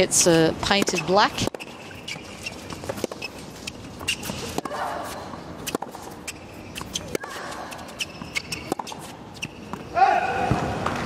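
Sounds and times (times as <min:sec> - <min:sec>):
racket striking tennis ball: 0:00.6 - 0:11.0.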